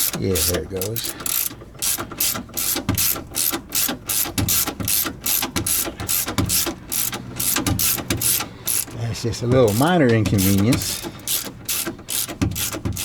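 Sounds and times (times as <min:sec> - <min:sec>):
ratchet wrench clicking: 0:00.0 - 0:09.0, 0:09.6 - 0:13.0.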